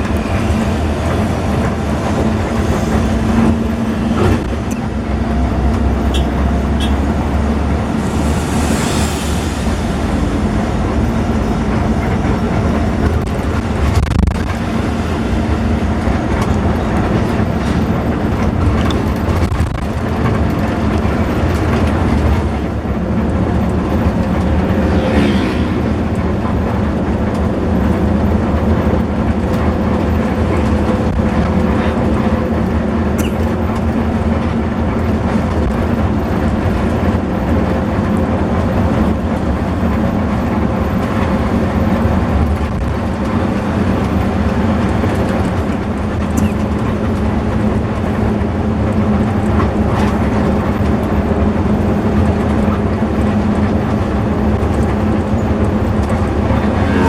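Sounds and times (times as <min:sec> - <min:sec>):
bus engine hum: 0:00.0 - 0:57.0
road and cabin noise: 0:00.0 - 0:57.0.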